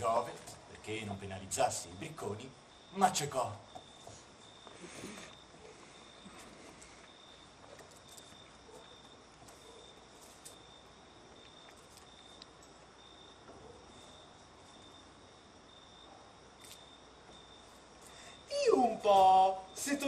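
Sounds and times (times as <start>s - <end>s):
background hiss: 0.0s - 20.0s
cricket chirping: 0.0s - 20.0s.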